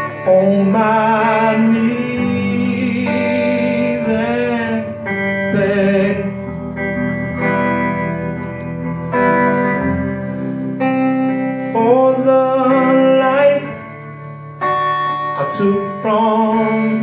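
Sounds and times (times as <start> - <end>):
acoustic guitars playing slowly: 0.0 - 17.0.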